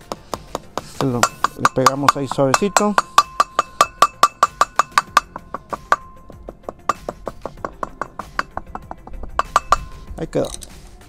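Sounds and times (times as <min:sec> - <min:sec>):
hammer tapping metal seal: 0:00.0 - 0:10.8.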